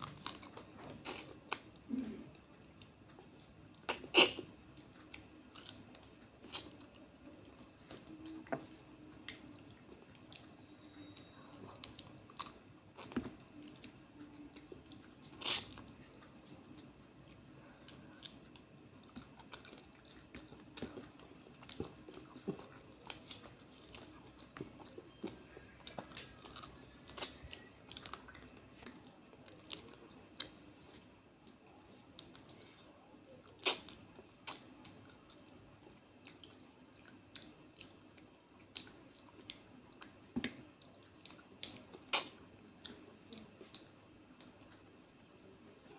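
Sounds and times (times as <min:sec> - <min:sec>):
chewing and crunching: 0:00.0 - 0:45.9.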